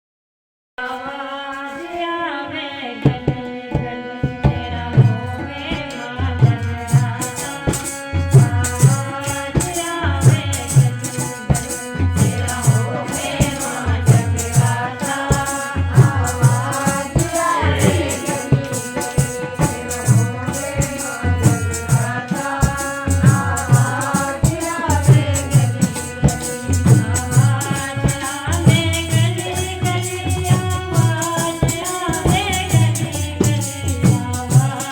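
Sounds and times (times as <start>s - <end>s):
hand drum beat: 3.1s - 34.9s.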